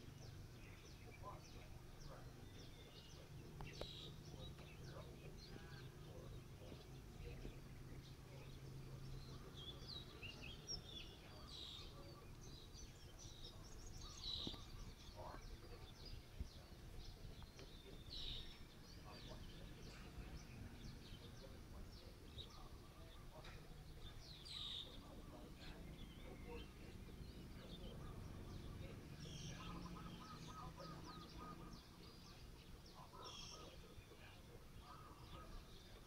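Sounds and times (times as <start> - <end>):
birds chirping: 0.0 - 36.0
low steady hum: 0.0 - 36.0.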